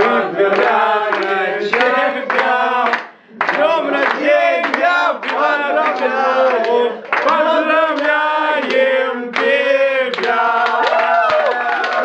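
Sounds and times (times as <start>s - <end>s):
hands clapping in time: 0.0s - 7.4s, 8.0s - 12.0s
group singing loudly: 0.0s - 12.0s.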